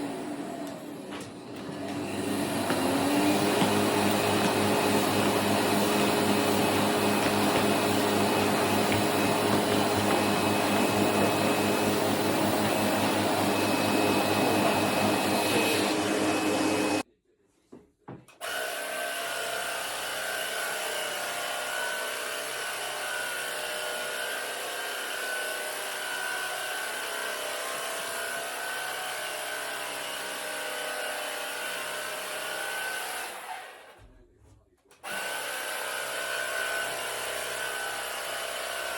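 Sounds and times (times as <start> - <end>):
vacuum cleaner on carpet: 0.0 - 17.0, 18.4 - 34.0, 35.0 - 38.9.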